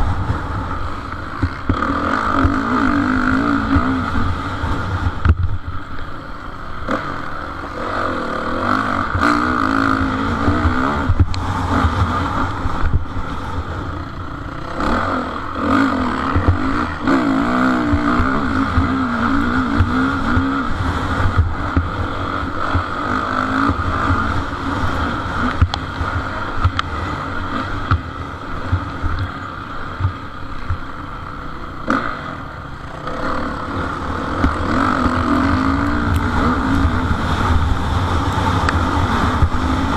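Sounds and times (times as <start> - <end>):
motocross engines revving: 0.0 - 39.9
steady low rumble: 0.0 - 39.9.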